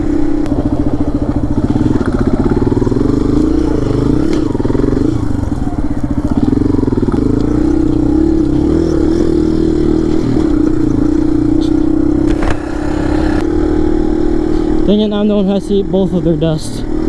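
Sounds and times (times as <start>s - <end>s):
dirt bike engine running: 0.0s - 14.1s.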